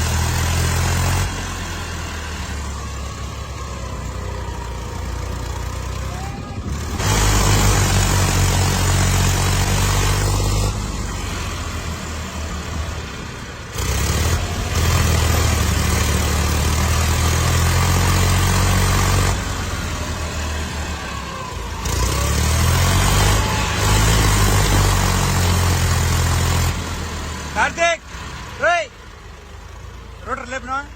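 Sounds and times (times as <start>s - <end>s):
tractor diesel engine revving: 0.0s - 30.9s.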